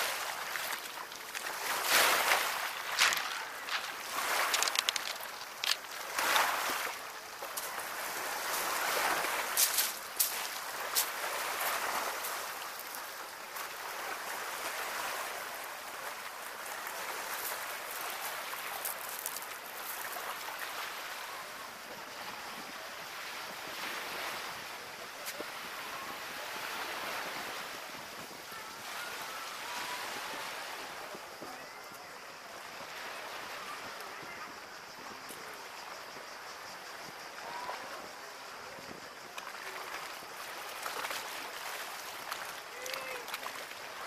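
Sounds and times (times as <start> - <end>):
small waves washing on shore: 0.0 - 44.0.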